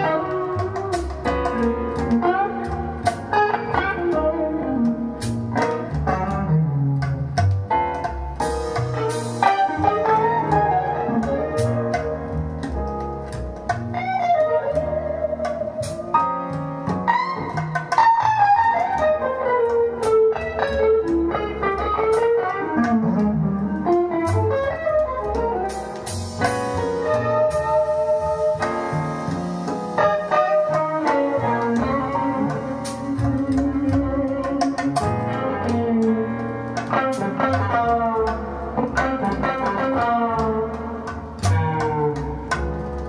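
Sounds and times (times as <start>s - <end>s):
instrumental music with lead guitar: 0.0s - 43.0s.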